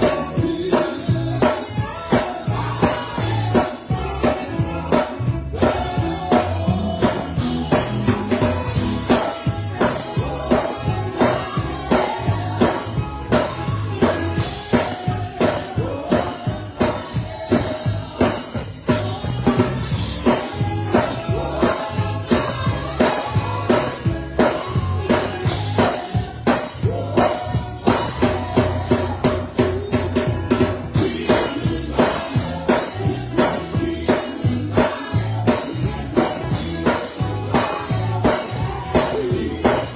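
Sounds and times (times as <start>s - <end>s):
drum kit beat: 0.0s - 39.9s
gospel band playing: 0.0s - 39.9s
people singing: 0.0s - 39.9s.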